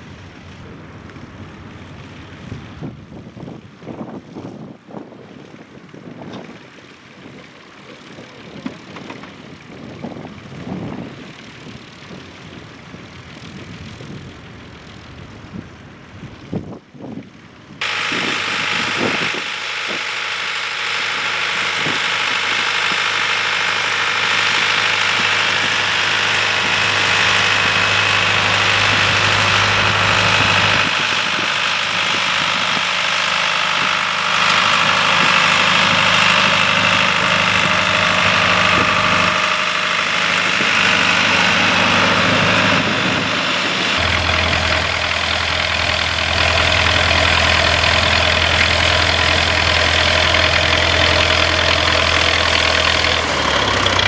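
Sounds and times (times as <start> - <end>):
tractor engine droning: 0.0 - 16.6, 17.4 - 54.0.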